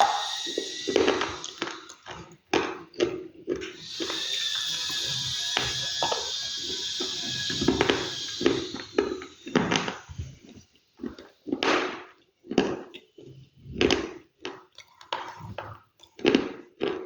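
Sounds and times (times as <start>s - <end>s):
chewing crunchy food: 0.0s - 17.0s.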